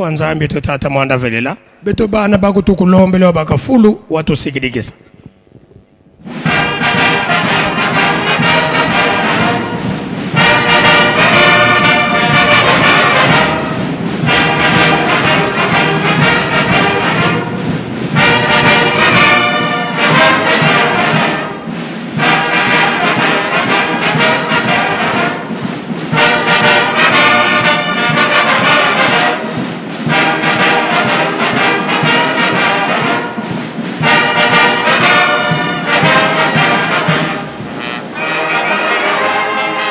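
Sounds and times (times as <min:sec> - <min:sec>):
brass band playing a slow hymn: 0:06.2 - 0:39.9.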